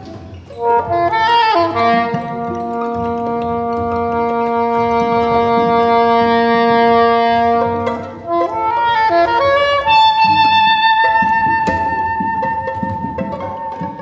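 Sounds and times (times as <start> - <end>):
soprano saxophone playing: 0.1 - 14.0.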